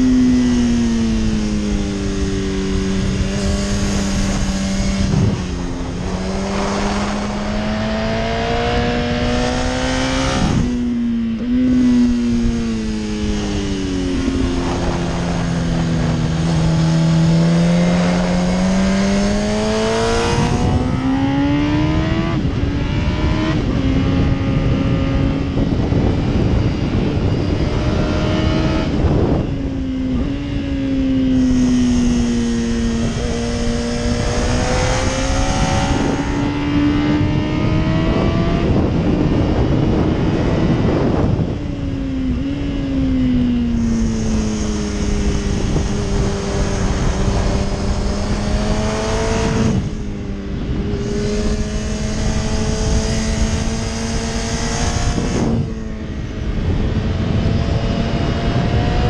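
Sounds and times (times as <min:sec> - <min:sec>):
motorcycle engine at speed: 0:00.0 - 0:59.0
wind rush: 0:00.0 - 0:59.0.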